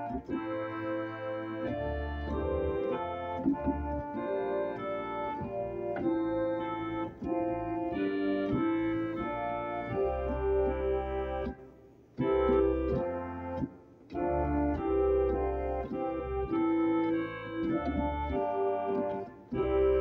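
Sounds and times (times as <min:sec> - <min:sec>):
organ playing a hymn: 0:00.0 - 0:20.0.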